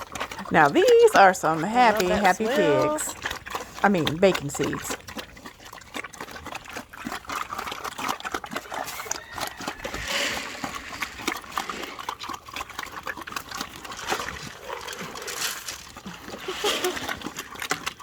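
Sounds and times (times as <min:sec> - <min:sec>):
pigs chomping and slurping: 0:00.0 - 0:18.0.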